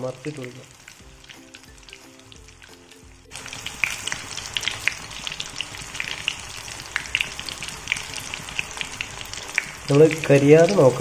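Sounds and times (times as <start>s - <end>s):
chicken deep-frying in hot oil: 0.0s - 11.0s.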